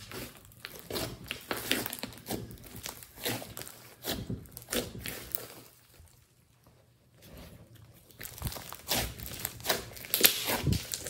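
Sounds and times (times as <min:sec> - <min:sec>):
slime squishing and crackling: 0:00.0 - 0:06.8, 0:07.7 - 0:11.0.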